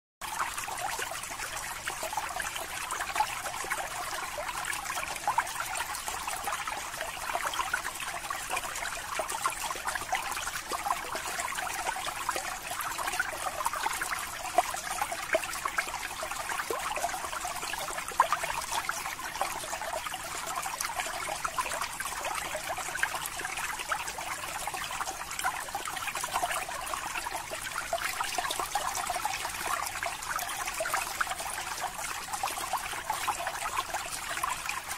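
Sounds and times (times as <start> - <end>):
aquarium water bubbling: 0.2 - 34.9.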